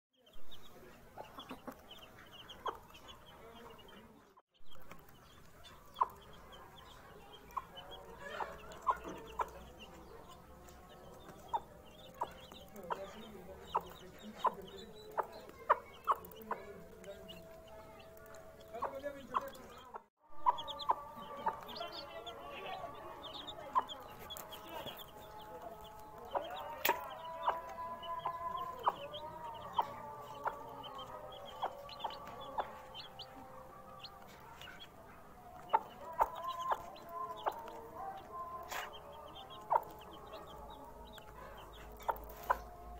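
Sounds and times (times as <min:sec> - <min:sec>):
baby chicks peeping: 0:00.2 - 0:42.9
hens clucking: 0:00.6 - 0:42.9.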